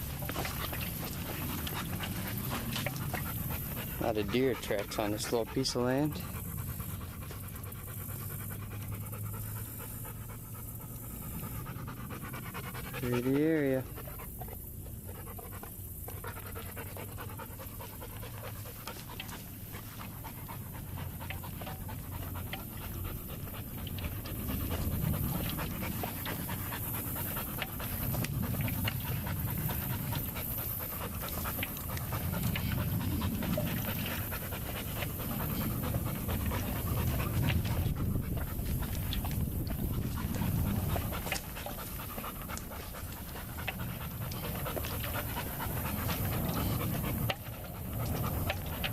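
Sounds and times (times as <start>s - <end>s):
dog panting: 0.0s - 48.9s.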